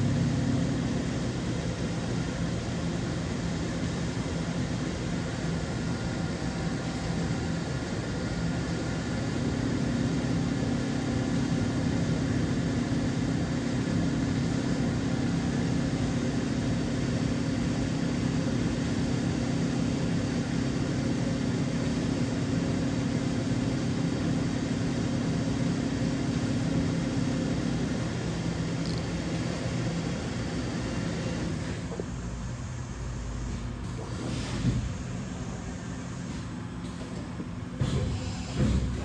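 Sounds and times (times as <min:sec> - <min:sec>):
machining centre running: 0:00.0 - 0:39.0.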